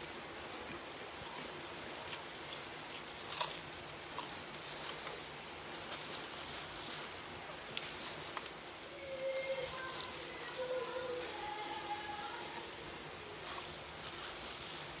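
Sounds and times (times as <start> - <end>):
plastic glove crackles: 0.0 - 15.0
steady hiss: 0.0 - 15.0
person chewing fried chicken: 0.2 - 8.8, 9.5 - 15.0.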